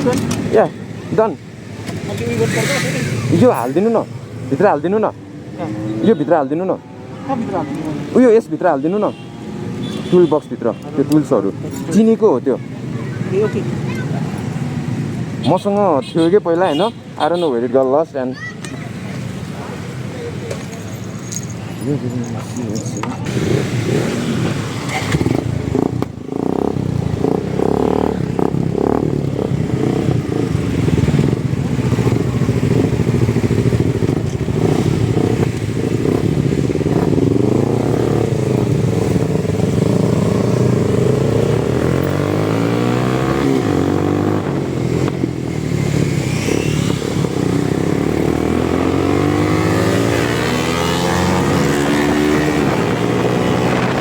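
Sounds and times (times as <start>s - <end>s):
motorcycle engine revving: 0.0s - 17.5s, 23.1s - 54.0s.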